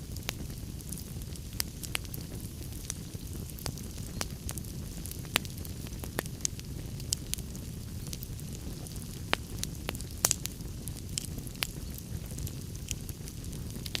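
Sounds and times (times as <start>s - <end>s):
log fire pops and snaps: 0.0s - 14.0s
low rumble of burning: 0.0s - 14.0s.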